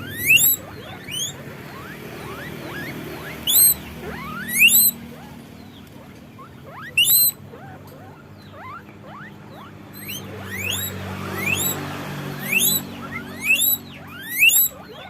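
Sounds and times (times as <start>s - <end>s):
guinea pigs wheeking: 0.0s - 15.0s.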